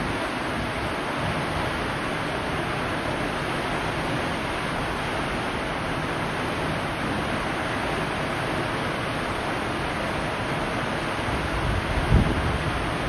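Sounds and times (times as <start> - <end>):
seawater rushing in ship's wake: 0.0 - 13.0
wind: 0.0 - 13.0.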